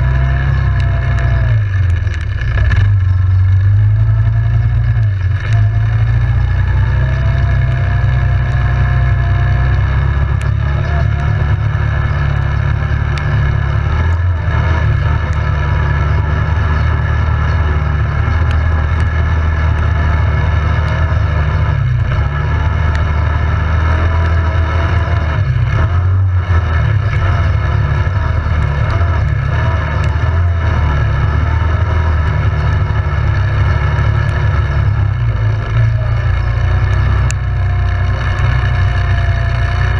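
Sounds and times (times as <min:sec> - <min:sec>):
atv engine running: 0:00.0 - 0:39.9
heavy low rumble: 0:00.0 - 0:39.9.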